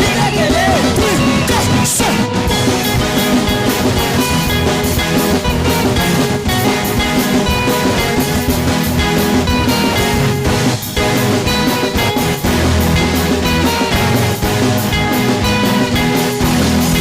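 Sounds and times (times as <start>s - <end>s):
drum kit beat: 0.0s - 17.0s
guitar: 0.0s - 17.0s
instrumental band music: 0.0s - 17.0s.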